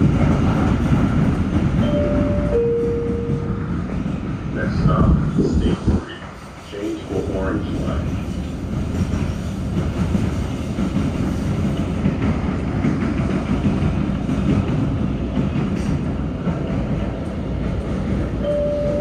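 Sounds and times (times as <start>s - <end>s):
subway car rumbling in tunnel: 0.0s - 19.0s.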